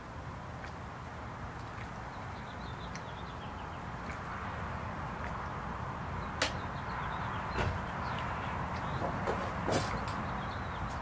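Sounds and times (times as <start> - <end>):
steady outdoor hiss: 0.0 - 11.0
songbird chirping: 1.8 - 11.0.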